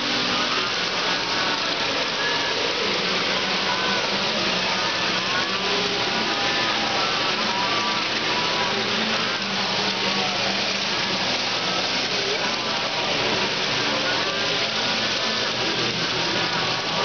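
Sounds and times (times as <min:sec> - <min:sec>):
indistinct voices: 0:00.0 - 0:17.0
model train rolling on track: 0:00.0 - 0:17.0.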